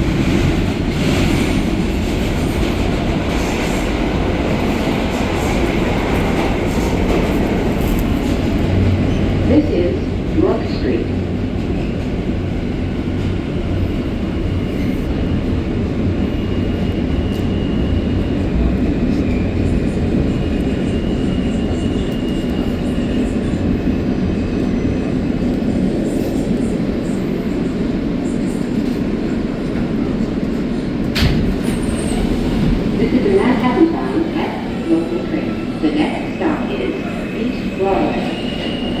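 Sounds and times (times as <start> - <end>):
subway car rumble: 0.0 - 39.0.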